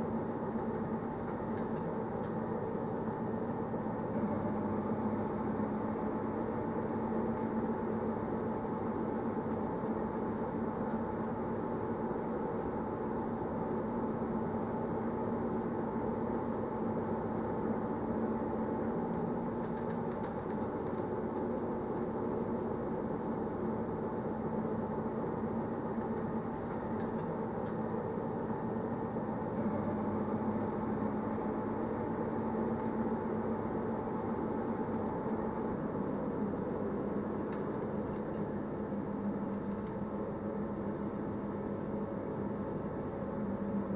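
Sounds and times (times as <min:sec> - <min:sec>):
constant low hum: 0:00.0 - 0:43.9.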